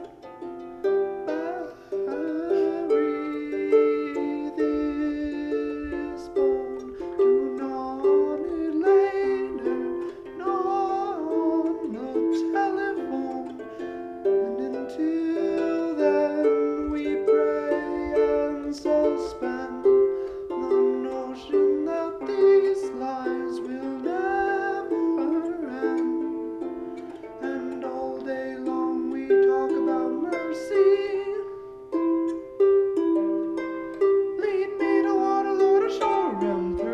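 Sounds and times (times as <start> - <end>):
plucked string instrument: 0.0 - 36.9.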